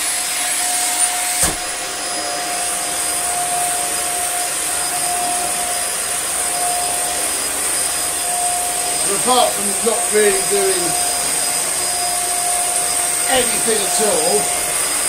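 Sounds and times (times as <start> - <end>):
vacuum cleaner whine: 0.0 - 15.0.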